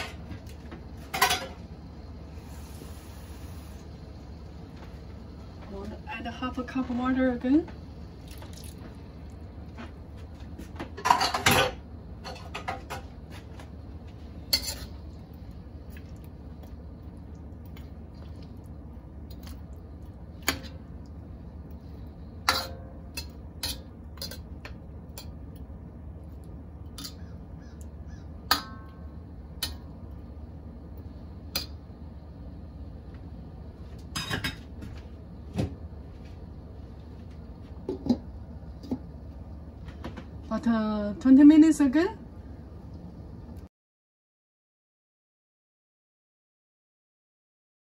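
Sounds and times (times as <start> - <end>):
steady low hum: 0.0 - 43.7.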